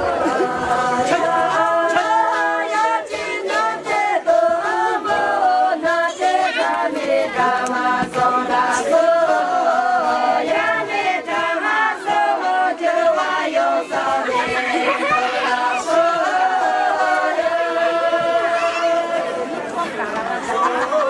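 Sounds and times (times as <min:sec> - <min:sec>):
women singing unaccompanied: 0:00.0 - 0:21.0.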